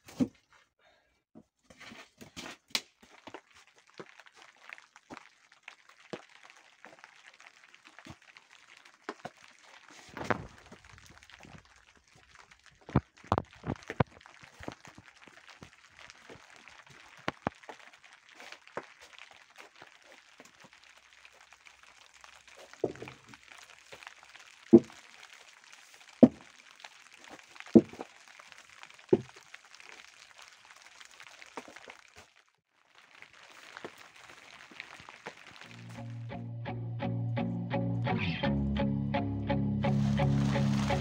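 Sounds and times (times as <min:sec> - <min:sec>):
small ticks and cracks: 0:02.7 - 0:36.1.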